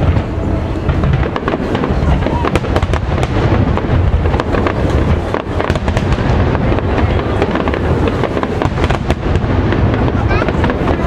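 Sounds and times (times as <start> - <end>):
fireworks crackling: 0.0 - 11.0
low rumble of fireworks: 0.0 - 11.0.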